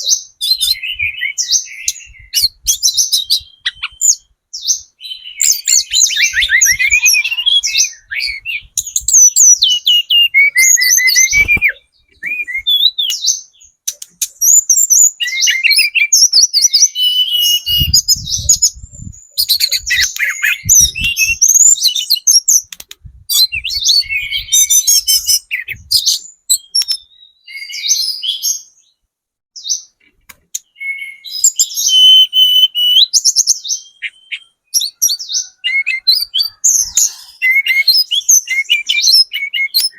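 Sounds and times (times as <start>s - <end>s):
bird chirping and trilling: 0.0s - 29.0s, 29.6s - 39.9s.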